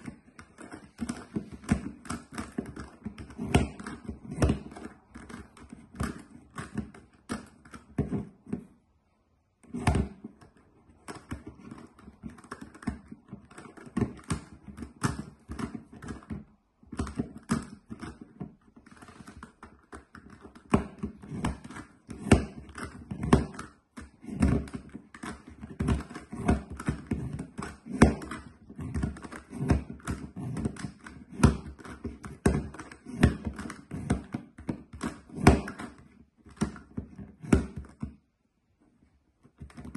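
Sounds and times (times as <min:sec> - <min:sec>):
plastic puzzle faces clicking: 0:00.0 - 0:08.7, 0:09.7 - 0:38.2.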